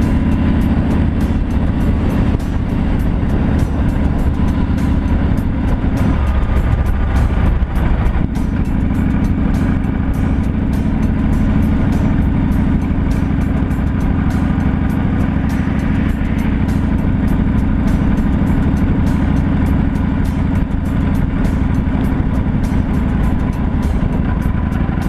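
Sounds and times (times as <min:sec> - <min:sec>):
music with ticking beat: 0:00.0 - 0:25.0
vehicle road and wind noise: 0:00.0 - 0:25.0.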